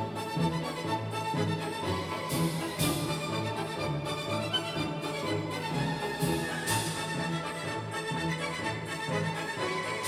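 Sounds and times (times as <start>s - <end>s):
orchestral music with strings: 0.0s - 10.0s.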